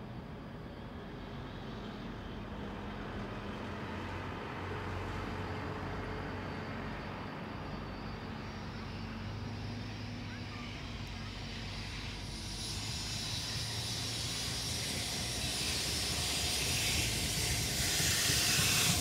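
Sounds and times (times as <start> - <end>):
outdoor background noise: 0.0 - 19.0
distant electric train humming: 2.6 - 19.0.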